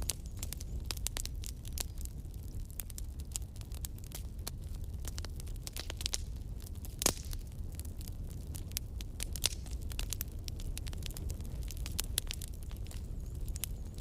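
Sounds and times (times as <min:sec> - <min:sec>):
firewood crackling and popping: 0:00.0 - 0:14.0
low rumble of flames: 0:00.0 - 0:14.0.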